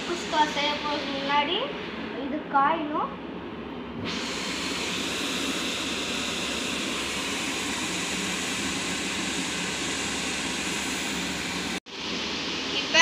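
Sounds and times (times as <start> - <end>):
gas burner hissing: 0.0 - 3.1, 4.0 - 13.0.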